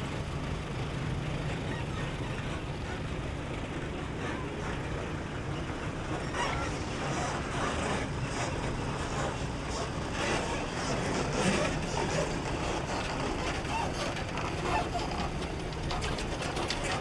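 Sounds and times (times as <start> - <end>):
faint indistinct voices: 1.2 - 17.0.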